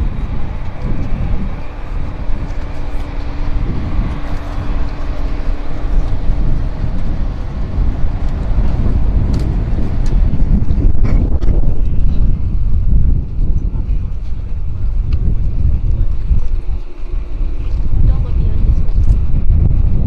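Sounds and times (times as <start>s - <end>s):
heavy low rumble: 0.0s - 20.0s
wind buffeting microphone: 0.0s - 20.0s.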